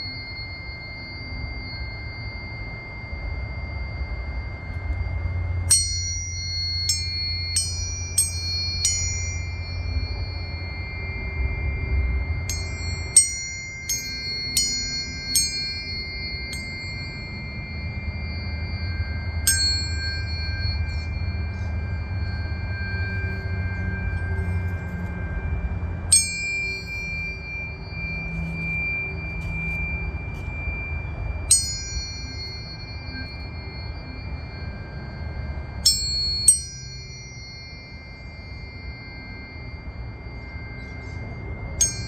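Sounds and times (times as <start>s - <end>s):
tuning forks ringing: 0.0s - 42.0s.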